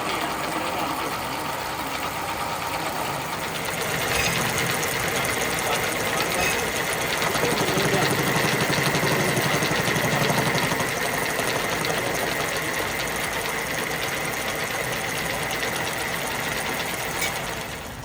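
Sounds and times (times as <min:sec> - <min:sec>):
machine clattering and whining: 0:00.0 - 0:18.0.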